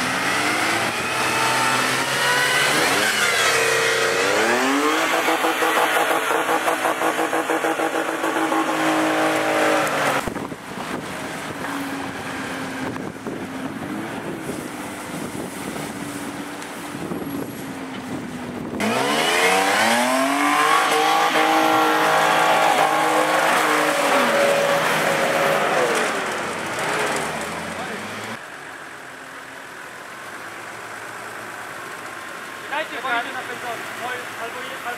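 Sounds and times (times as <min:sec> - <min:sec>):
off-road engine revving: 0:00.0 - 0:28.8.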